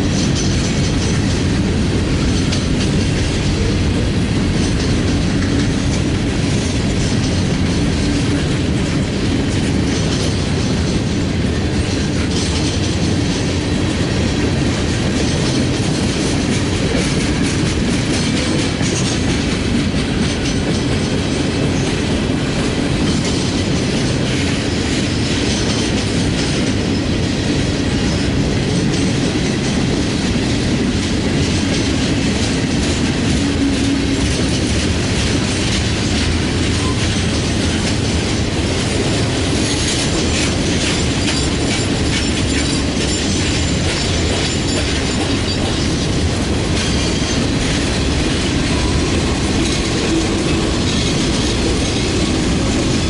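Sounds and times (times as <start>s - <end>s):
train wheels clattering over rail joints: 0.0s - 53.0s.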